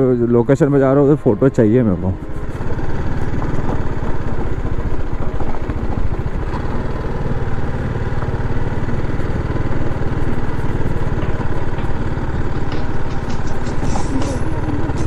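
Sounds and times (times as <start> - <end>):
motorcycle engine at low revs: 0.2 - 15.0.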